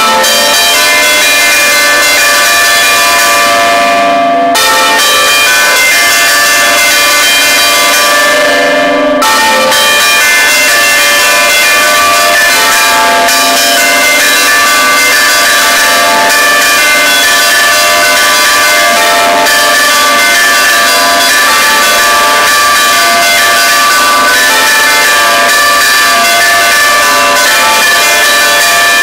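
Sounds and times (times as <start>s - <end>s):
large tower bells ringing: 0.0s - 29.0s.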